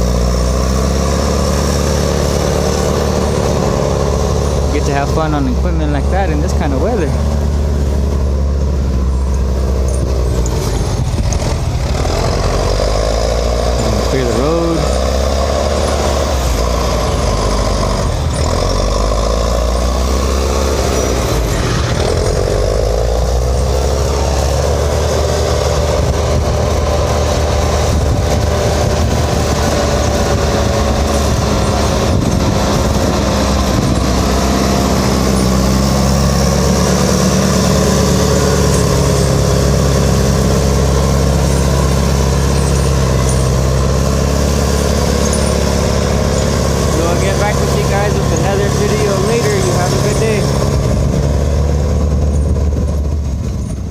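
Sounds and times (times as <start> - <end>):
heavy machinery engine running: 0.0 - 53.9.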